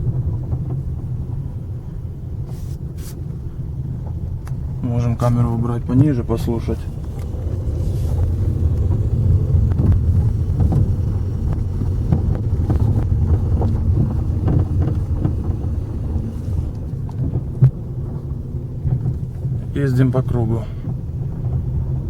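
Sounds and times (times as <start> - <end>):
steering knocks: 2.4 - 22.0
tyres rolling on gravel: 4.0 - 22.0.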